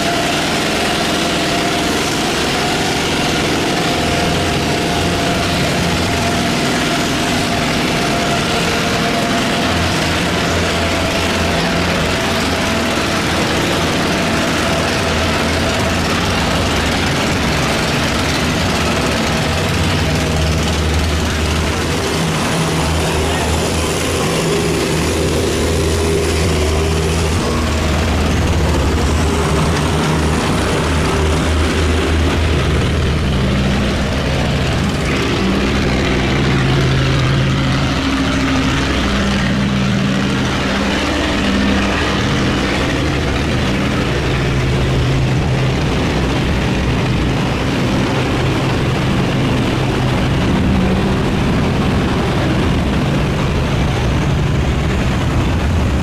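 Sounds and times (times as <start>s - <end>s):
boat engines running: 0.0s - 56.0s.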